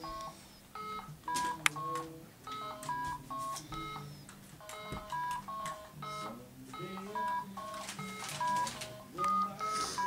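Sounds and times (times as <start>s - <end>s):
electronic game beeps: 0.0s - 10.0s.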